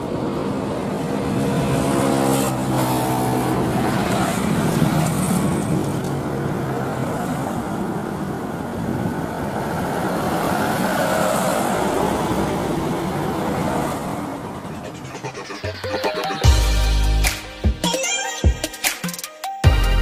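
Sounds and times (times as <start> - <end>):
jet airliner engines rumbling: 0.0 - 16.4
engine hum with spaced tones: 0.0 - 17.8.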